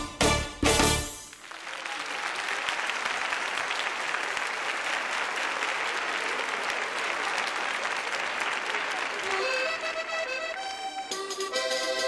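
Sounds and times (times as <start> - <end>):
audience applauding: 0.9 - 11.7.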